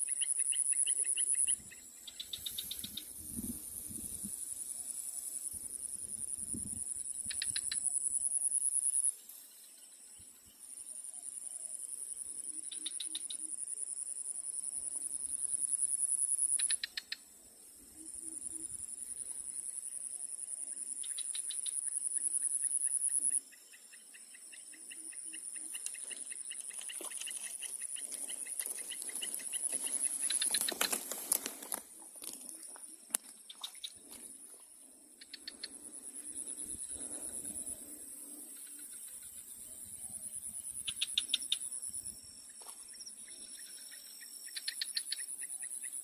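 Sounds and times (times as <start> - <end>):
insects buzzing: 0.0 - 11.0, 11.9 - 46.0
insects chirping: 0.0 - 46.0.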